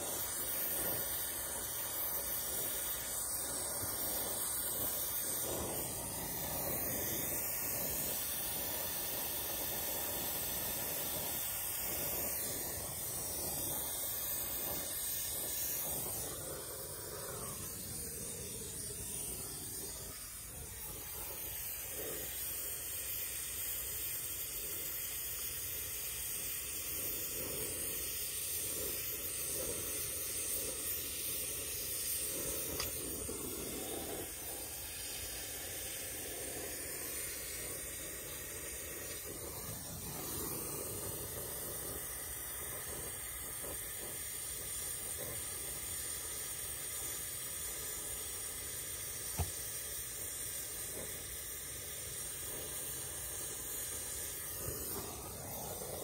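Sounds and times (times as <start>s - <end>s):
torch flame hissing: 0.0s - 56.0s.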